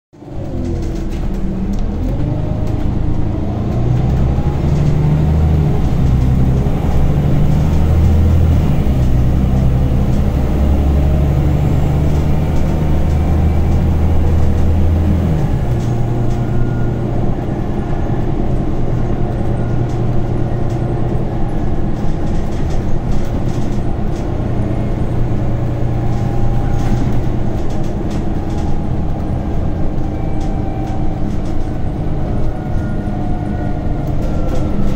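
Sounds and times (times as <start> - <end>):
bus engine droning: 0.2 - 34.9.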